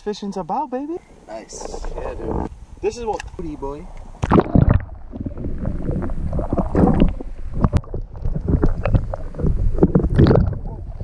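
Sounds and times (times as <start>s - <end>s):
underwater water sloshing: 1.0s - 11.0s.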